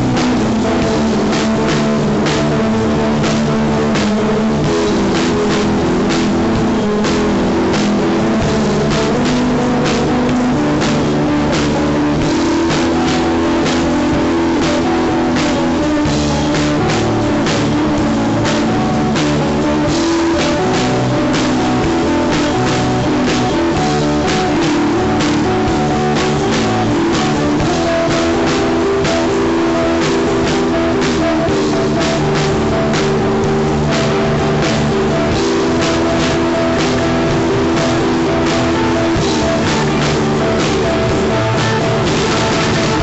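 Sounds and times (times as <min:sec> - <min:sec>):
drum and cymbal hits: 0:00.0 - 0:43.0
electric guitar chords: 0:00.0 - 0:43.0.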